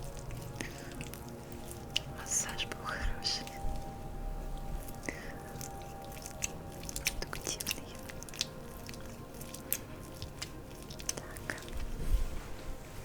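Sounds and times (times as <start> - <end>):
oily hands on skin: 0.0 - 13.0.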